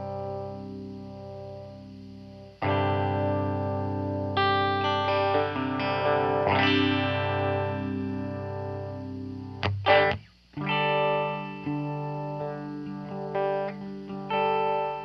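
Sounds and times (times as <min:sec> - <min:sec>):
electric guitar chords swirling: 0:00.0 - 0:15.0
sharp guitar strikes: 0:00.0 - 0:15.0.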